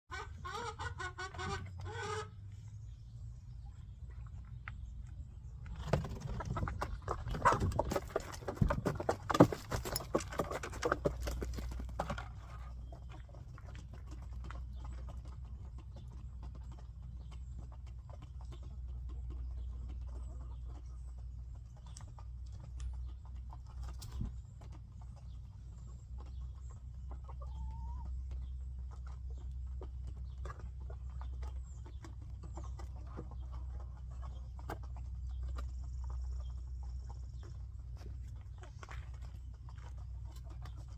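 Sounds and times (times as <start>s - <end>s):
patter of chicken feet: 0.1s - 40.9s.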